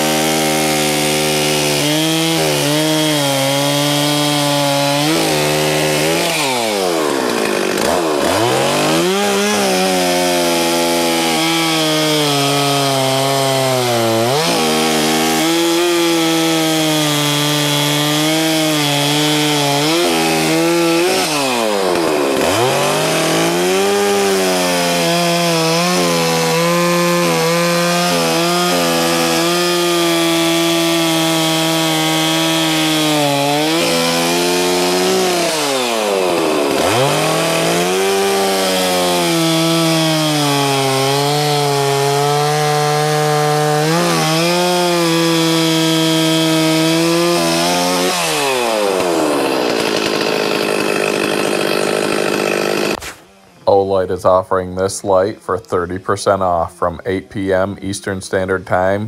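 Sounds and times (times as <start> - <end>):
chainsaw cutting wood: 0.0 - 53.8.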